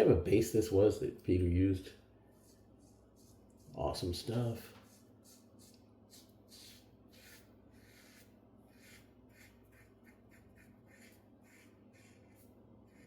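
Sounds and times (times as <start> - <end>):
razor scratching over stubble: 2.3 - 13.0.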